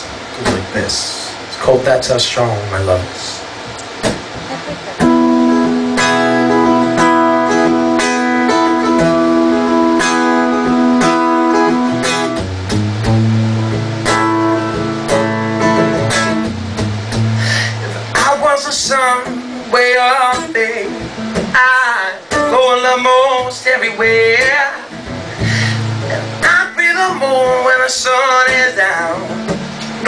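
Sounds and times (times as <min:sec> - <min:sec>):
acoustic guitar strumming chords: 0:03.9 - 0:30.0.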